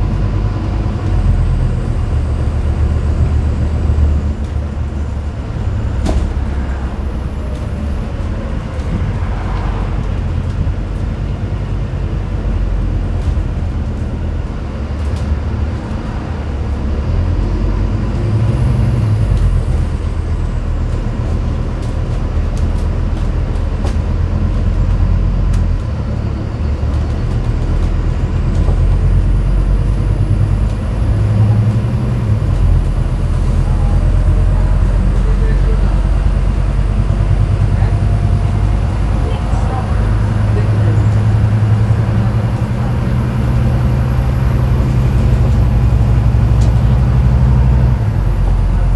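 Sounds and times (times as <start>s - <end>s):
bus diesel engine rumbling: 0.0s - 48.9s.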